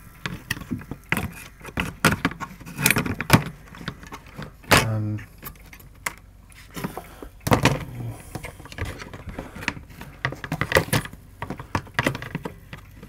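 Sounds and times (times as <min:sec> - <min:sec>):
plastic parts clicking and tapping: 0:00.2 - 0:13.0.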